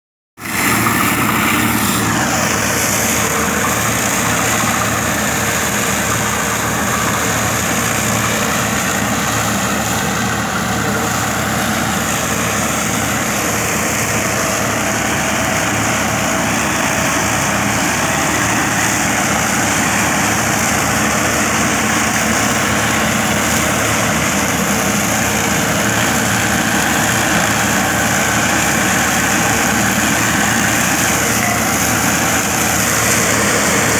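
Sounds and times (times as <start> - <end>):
mulcher blades shredding straw: 0.4 - 33.9
tractor engine running under load: 0.4 - 33.9.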